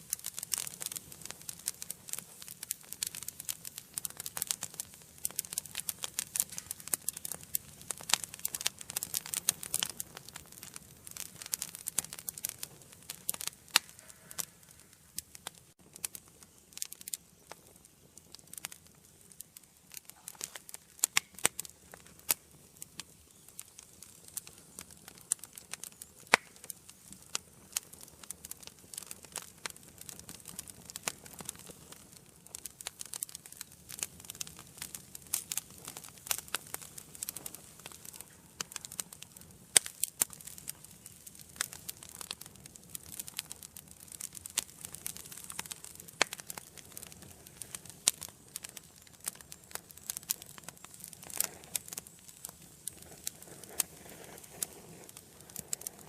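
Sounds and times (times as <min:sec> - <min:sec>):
hiss of flame: 0:00.0 - 0:56.0
wood fire crackling and popping: 0:00.0 - 0:56.0.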